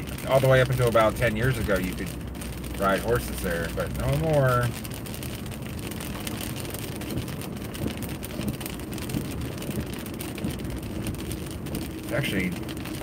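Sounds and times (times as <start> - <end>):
car road and engine noise: 0.0 - 13.0
rain pattering on windshield: 0.0 - 13.0.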